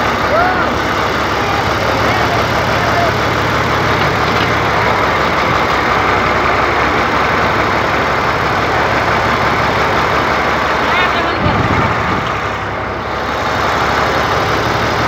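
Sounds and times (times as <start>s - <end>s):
backhoe engine running loudly: 0.0s - 15.0s.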